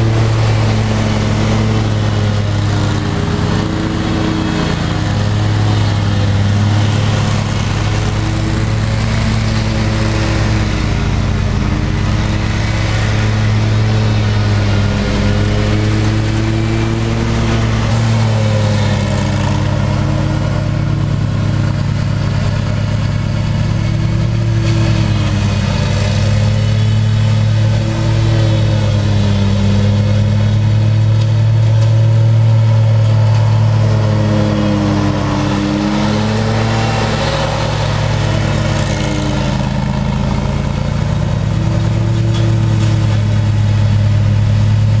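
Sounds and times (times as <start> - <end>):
lawn mower engine droning: 0.0 - 45.0.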